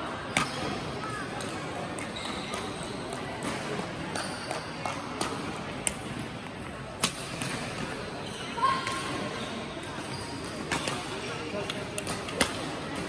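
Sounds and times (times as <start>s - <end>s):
crowd chattering in a hall: 0.0s - 13.0s.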